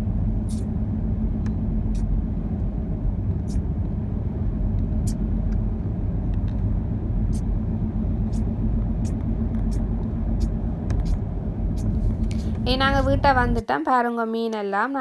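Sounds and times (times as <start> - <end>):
car engine and road rumble: 0.0 - 13.7.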